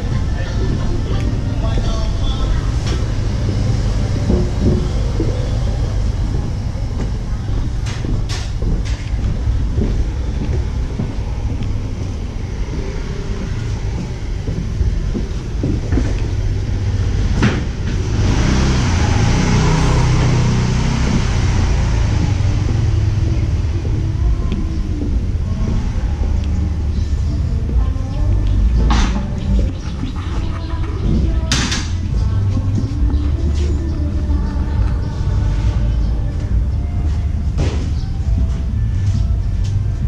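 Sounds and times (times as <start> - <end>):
handheld camera rumble: 0.0 - 40.0.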